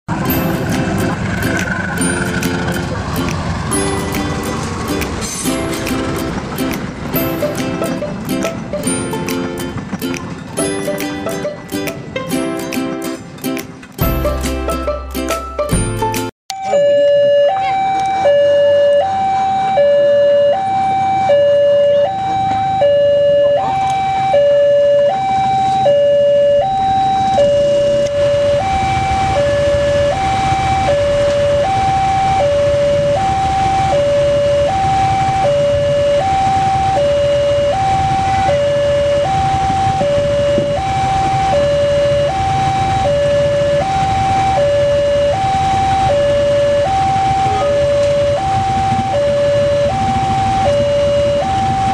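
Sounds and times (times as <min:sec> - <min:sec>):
two-tone crossing alarm: 0:00.1 - 0:09.8, 0:16.5 - 0:51.9.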